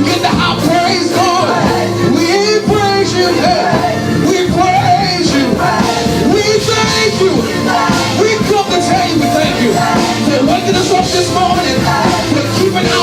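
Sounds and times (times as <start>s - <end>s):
band playing worship music: 0.0s - 13.0s
voices singing: 0.0s - 13.0s.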